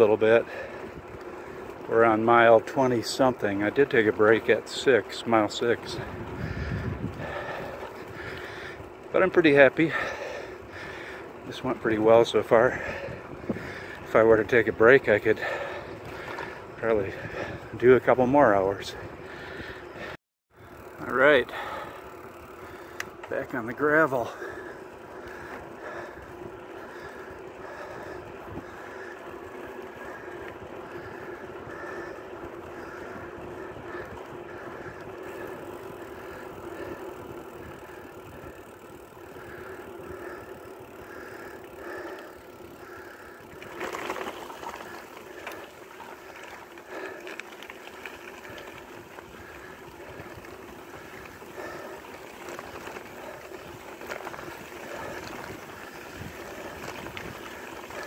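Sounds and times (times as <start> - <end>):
bicycle tyres rolling on gravel: 0.0 - 58.0.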